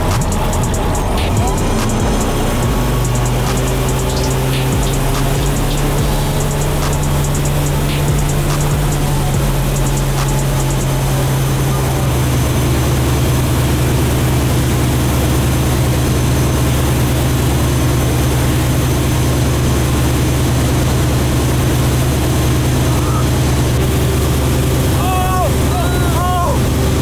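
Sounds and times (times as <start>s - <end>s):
motorboat engine droning: 0.0s - 27.0s.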